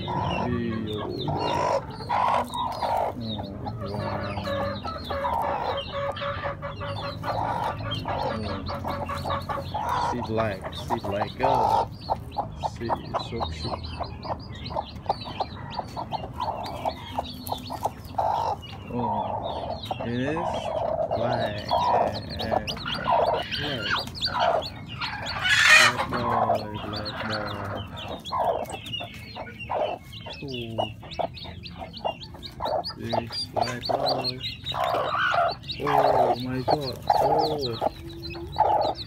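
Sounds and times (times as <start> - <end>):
chicks peeping: 0.0 - 39.0
hen clucking: 0.0 - 39.0.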